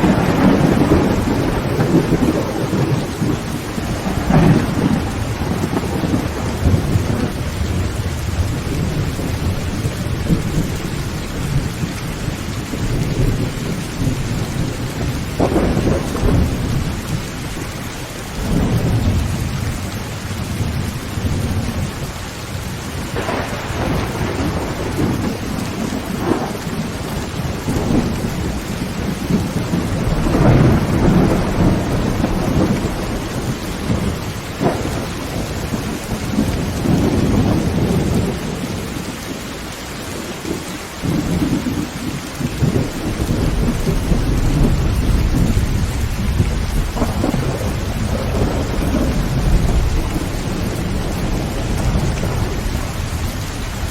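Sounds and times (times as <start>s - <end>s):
heavy rain on a tin roof: 0.0s - 53.9s
thunder rumbling: 0.0s - 53.9s.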